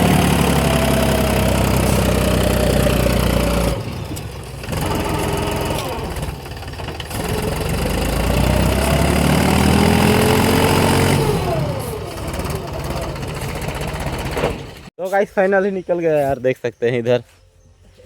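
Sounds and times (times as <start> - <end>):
tractor diesel engine labouring: 0.0 - 14.9.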